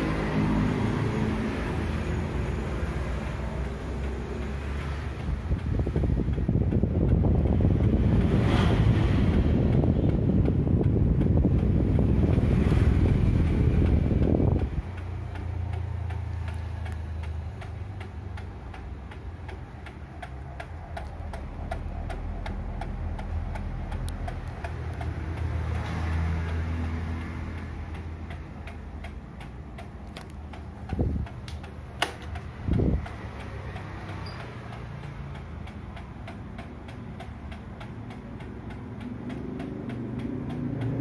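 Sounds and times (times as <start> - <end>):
electric fan motor humming: 0.0 - 41.0
fan airflow rushing on microphone: 0.0 - 41.0
rapid irregular ticking: 0.0 - 41.0.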